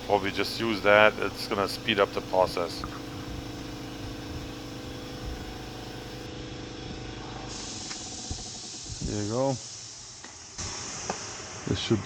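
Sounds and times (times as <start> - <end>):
hiss: 0.0 - 6.3, 7.2 - 12.0
mechanical hum: 0.0 - 10.8.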